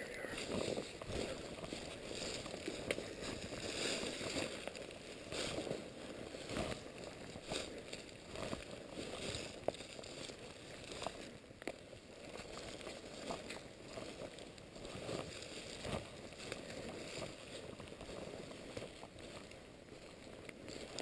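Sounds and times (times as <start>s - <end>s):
footsteps in fallen leaves: 0.0s - 21.0s.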